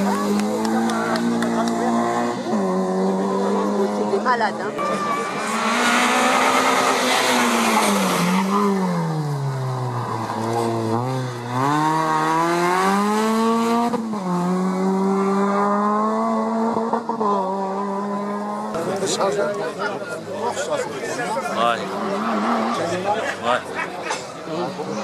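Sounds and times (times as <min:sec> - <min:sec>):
rally car engine revving: 0:00.0 - 0:19.5, 0:20.4 - 0:25.0.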